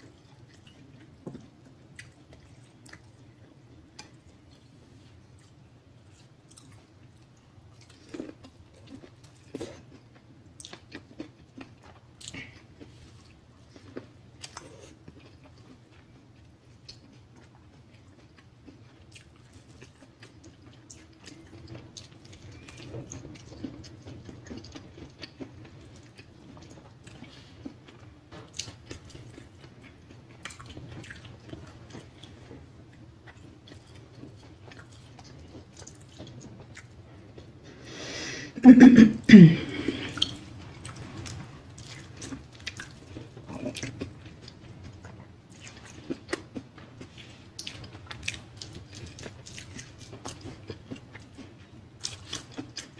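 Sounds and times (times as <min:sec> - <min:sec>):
person chewing and lip smacking: 0:00.0 - 0:03.3, 0:03.9 - 0:04.7, 0:05.3 - 0:37.5, 0:39.6 - 0:52.9.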